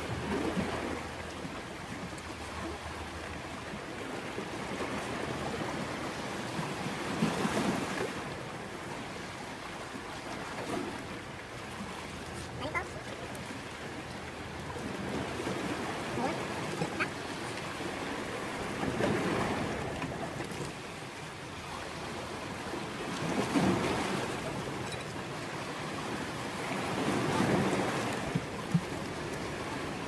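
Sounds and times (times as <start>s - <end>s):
sea waves washing onto beach: 0.0s - 30.0s.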